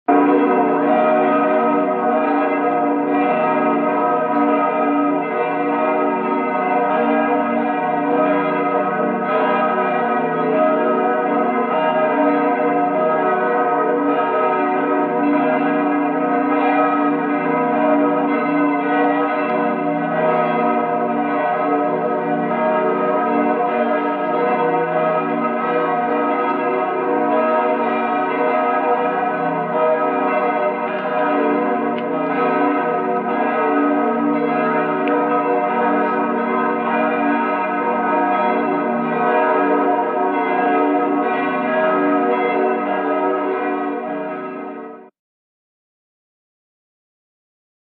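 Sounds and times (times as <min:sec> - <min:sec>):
church bells ringing: 0:00.1 - 0:45.1.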